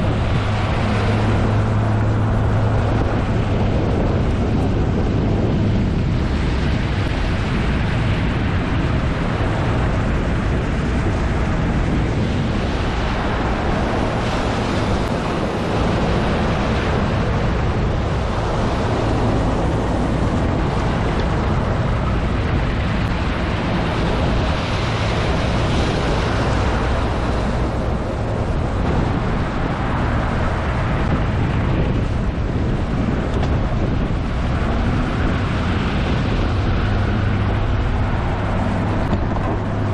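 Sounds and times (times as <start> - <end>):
outboard motor running: 0.0 - 39.9
water rushing: 0.0 - 39.9
wind buffeting microphone: 0.0 - 39.9.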